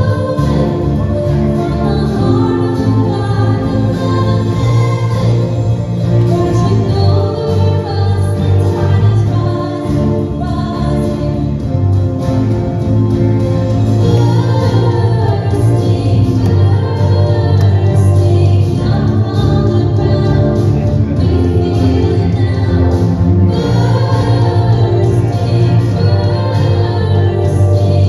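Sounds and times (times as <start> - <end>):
worship music with singing: 0.0 - 12.3, 14.0 - 28.0.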